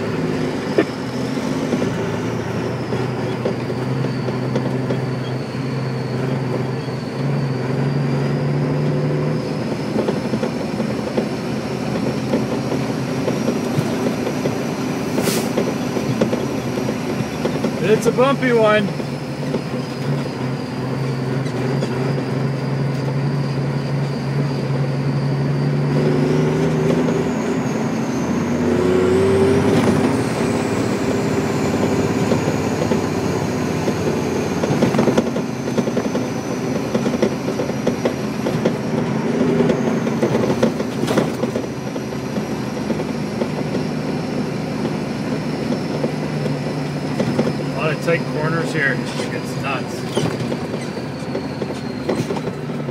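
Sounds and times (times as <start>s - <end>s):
dump truck engine running: 0.0s - 52.9s.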